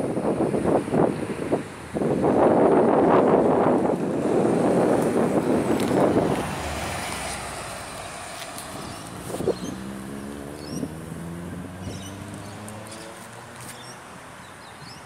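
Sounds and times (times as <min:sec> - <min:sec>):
wind buffeting microphone: 0:00.0 - 0:14.0
diesel bus passing: 0:00.0 - 0:15.0.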